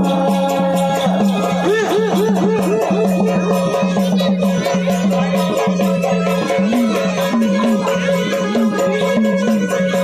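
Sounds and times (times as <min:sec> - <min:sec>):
drone-like melody: 0:00.0 - 0:10.0
quick hand drum: 0:00.0 - 0:10.0.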